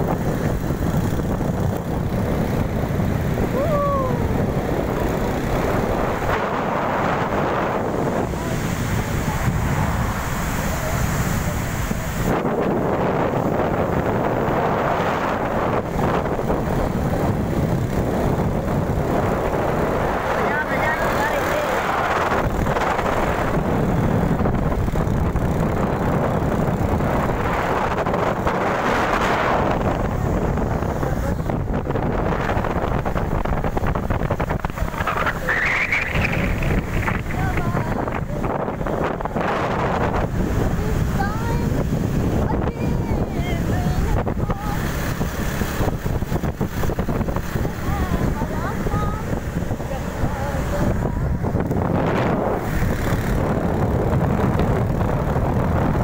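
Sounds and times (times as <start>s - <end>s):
moving vehicle on road: 0.0s - 56.0s
wind buffeting microphone: 0.0s - 56.0s.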